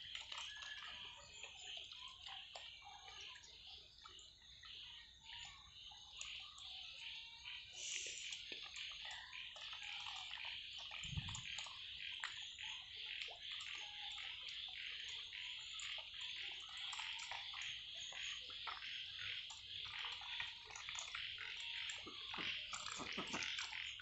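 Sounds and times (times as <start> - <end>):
ducks dabbling in water: 0.0 - 24.0.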